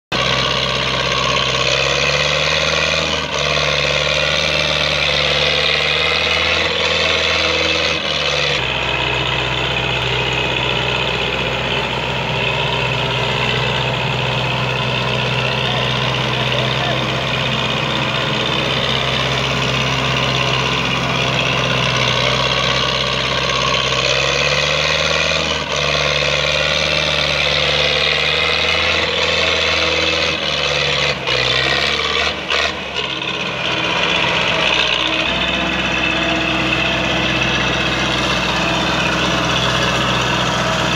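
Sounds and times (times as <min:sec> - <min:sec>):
diesel tractor engine under load: 0:00.0 - 0:40.9.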